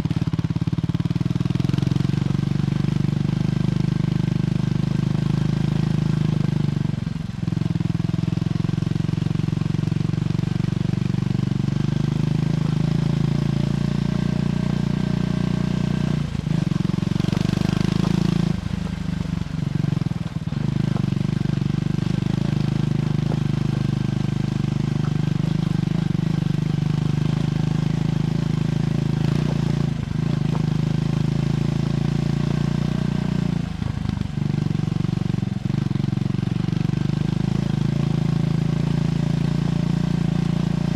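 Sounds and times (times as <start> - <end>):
motorcycle engine under way: 0.0 - 40.9.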